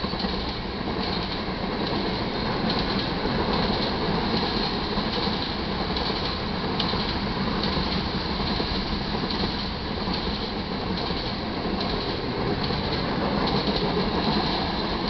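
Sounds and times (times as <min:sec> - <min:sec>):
freight train wheels rattling: 0:00.0 - 0:15.0.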